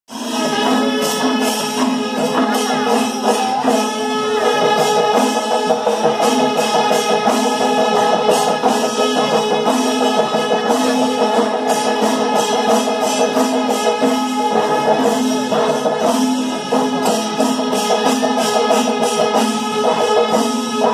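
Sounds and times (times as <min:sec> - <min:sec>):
drums playing dense rhythm: 0:00.1 - 0:20.9
hand cymbals: 0:00.1 - 0:20.9.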